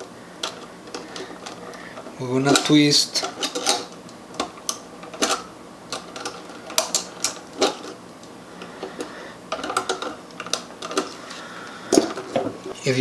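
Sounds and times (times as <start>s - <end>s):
pliers clicking on metal wires: 0.0s - 12.5s.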